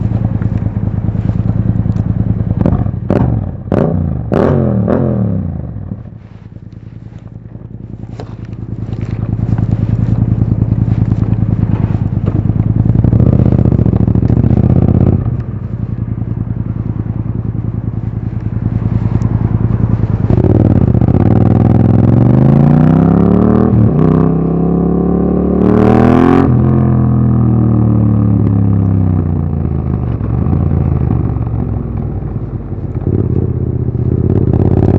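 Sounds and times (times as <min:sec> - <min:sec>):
exhaust crackles: 0:00.0 - 0:34.9
motorcycle engine revving: 0:00.0 - 0:34.9.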